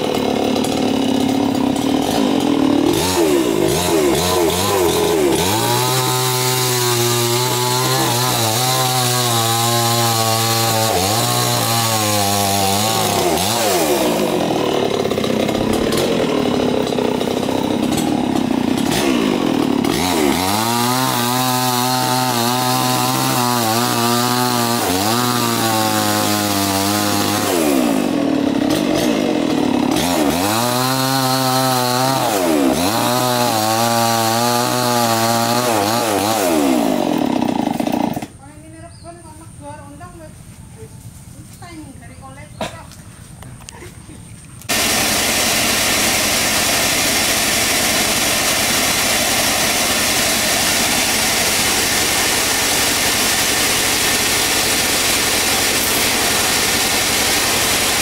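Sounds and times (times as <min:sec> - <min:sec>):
chainsaw revving and cutting wood: 0:00.0 - 0:38.5, 0:44.6 - 0:58.0.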